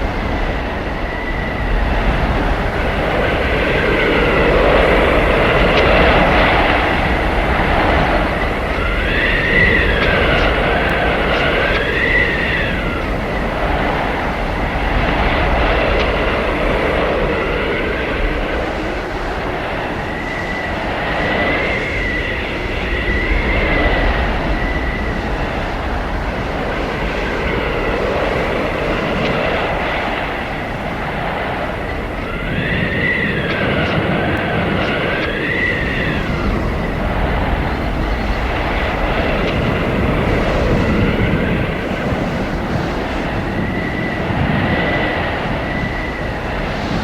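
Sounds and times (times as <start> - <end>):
blizzard wind howling: 0.0 - 47.0
wind whistling: 0.0 - 47.0.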